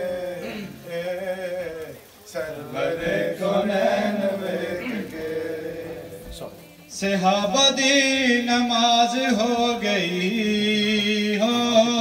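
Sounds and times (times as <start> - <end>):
men singing devotional song: 0.0 - 12.0.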